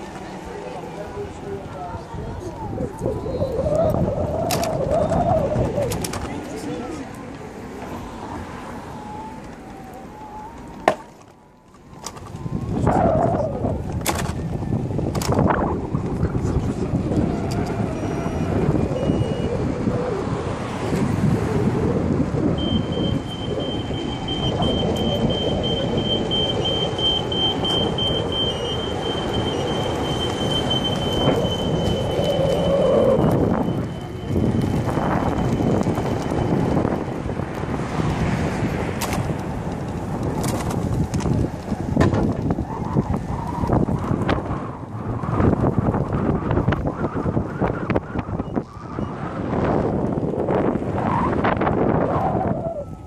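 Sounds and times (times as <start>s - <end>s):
wheel rolling on pavement: 0.0s - 53.0s
tyre and wind rush: 1.3s - 9.3s, 11.9s - 53.0s.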